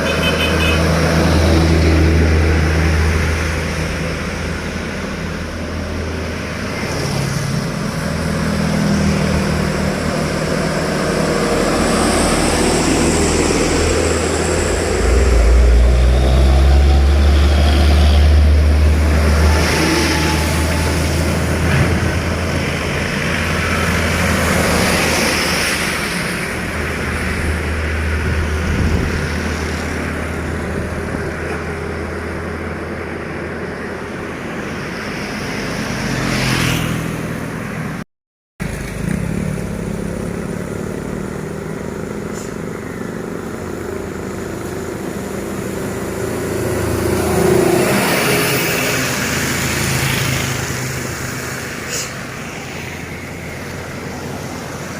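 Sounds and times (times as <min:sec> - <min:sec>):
heavy diesel trucks passing: 0:00.0 - 0:38.0, 0:38.6 - 0:54.9.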